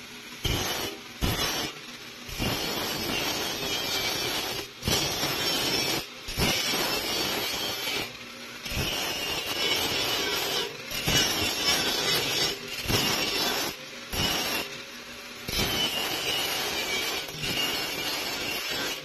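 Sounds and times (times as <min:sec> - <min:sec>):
angle grinder screeching on metal: 0:00.4 - 0:19.0.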